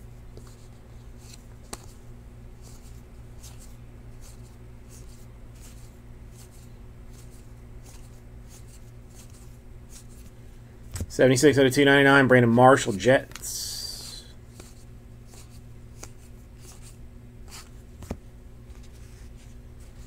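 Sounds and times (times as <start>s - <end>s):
steady low hum: 0.0s - 20.0s
cards sliding with soft swish: 0.3s - 10.4s, 14.0s - 20.0s.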